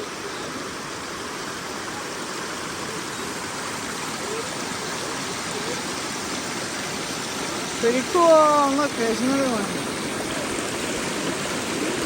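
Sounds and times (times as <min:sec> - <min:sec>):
stream running: 0:00.0 - 0:12.0.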